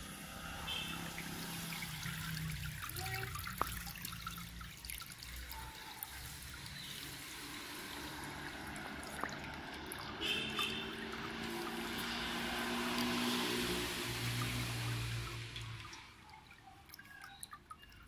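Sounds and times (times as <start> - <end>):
wine trickling into metal pot: 0.1 - 18.0.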